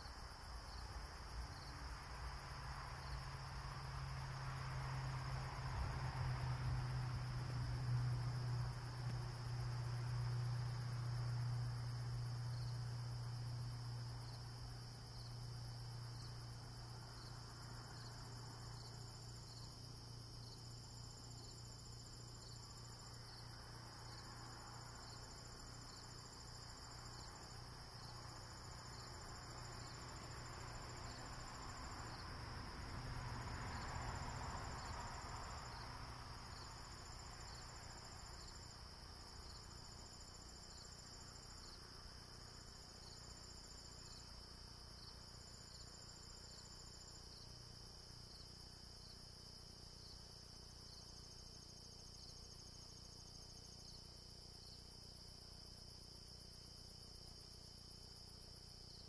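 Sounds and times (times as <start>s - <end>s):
crickets chirping: 0.0s - 59.0s
high insect trill: 0.0s - 59.0s.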